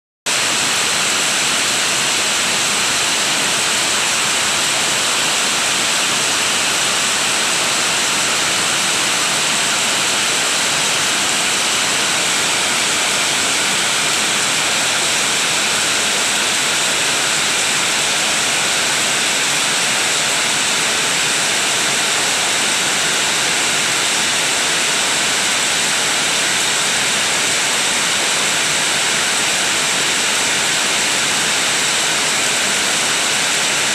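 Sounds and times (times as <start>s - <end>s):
heavy rain pouring: 0.3s - 33.9s.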